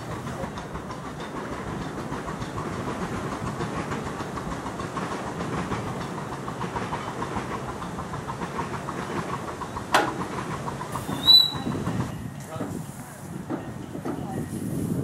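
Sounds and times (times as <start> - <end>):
small wheels clicking on rail: 0.0 - 14.4.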